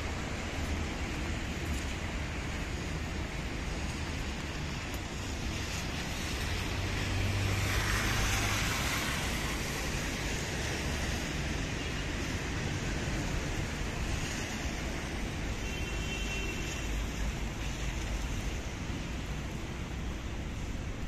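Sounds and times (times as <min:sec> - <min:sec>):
tyres hissing on wet road: 0:00.0 - 0:21.0
wet street traffic noise: 0:00.0 - 0:21.0.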